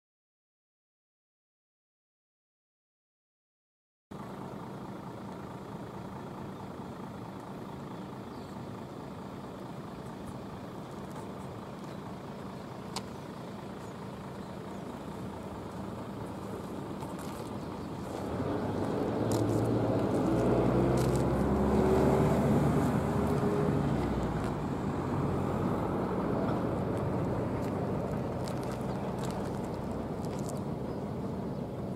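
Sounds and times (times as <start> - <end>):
motor engine running: 4.2 - 31.9.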